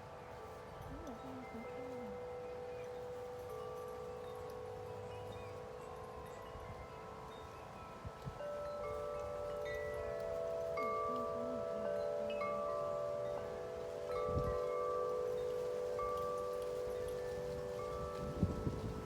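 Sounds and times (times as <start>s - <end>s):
low wind rumble: 0.0s - 19.0s
wind chimes ringing: 0.0s - 19.0s.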